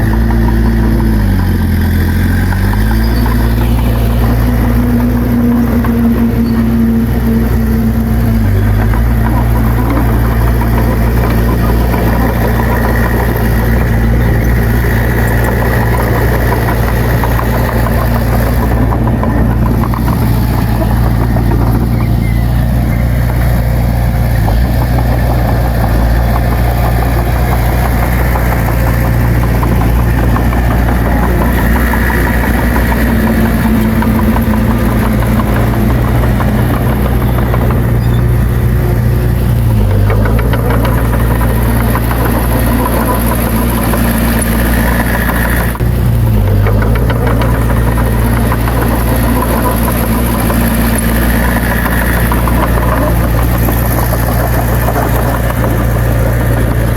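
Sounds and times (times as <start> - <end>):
bulldozer diesel engine droning: 0.0 - 56.9.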